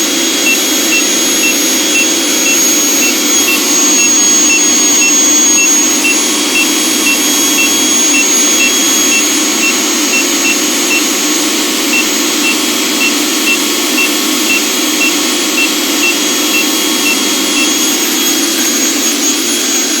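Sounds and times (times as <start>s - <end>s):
alarm buzzer beeping: 0.0s - 20.0s
vacuum cleaner motor running: 0.0s - 20.0s.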